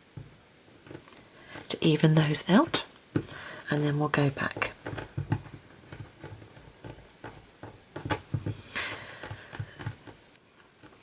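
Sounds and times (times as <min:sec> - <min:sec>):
fingers tapping and rubbing clay: 0:00.1 - 0:11.0.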